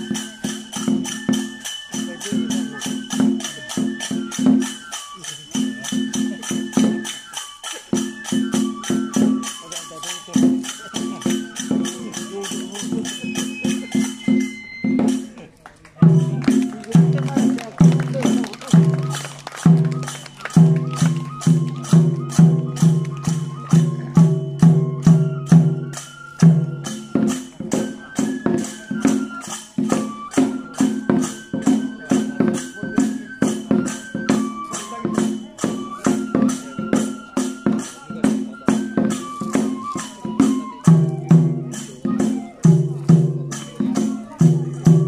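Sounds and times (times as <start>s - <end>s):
bamboo flute melody: 0.0s - 45.0s
drum beats: 0.0s - 45.0s
hand cymbals clashing: 0.0s - 45.0s.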